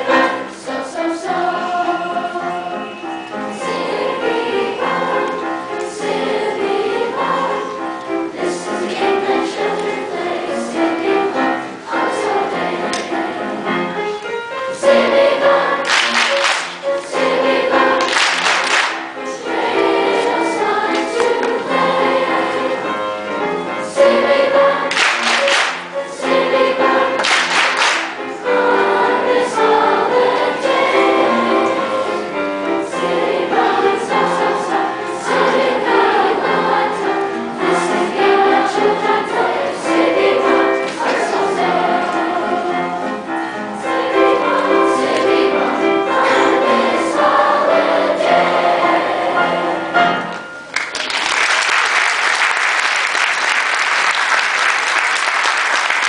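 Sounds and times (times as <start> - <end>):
choir singing: 0.0 - 50.6.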